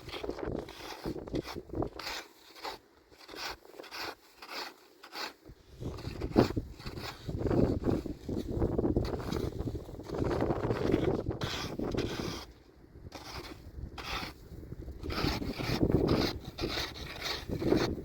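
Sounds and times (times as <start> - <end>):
rustling and scraping: 0.0 - 18.0.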